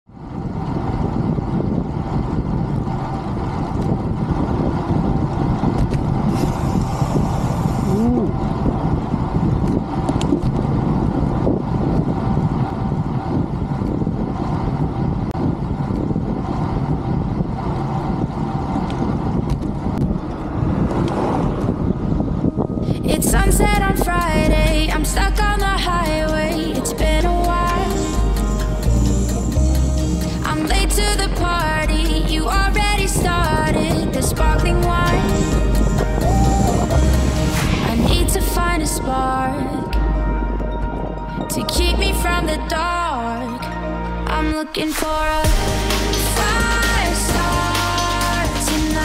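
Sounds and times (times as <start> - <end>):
wind rushing over microphone: 0.1 - 49.0.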